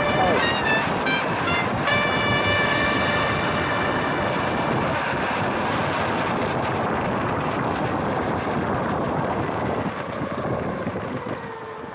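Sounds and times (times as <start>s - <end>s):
skateboard rolling on asphalt: 0.0s - 11.9s
wind buffeting microphone: 0.0s - 11.9s.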